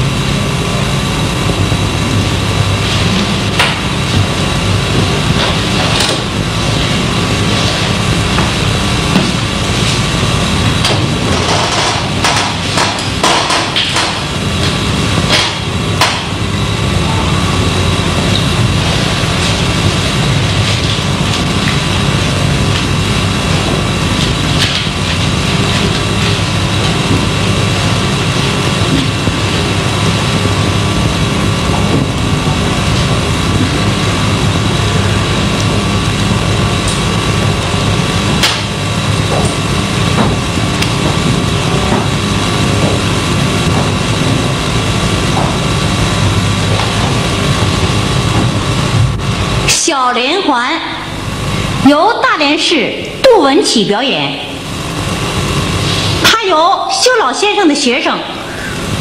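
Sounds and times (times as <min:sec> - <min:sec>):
tape hiss and hum: 0:00.0 - 0:59.0.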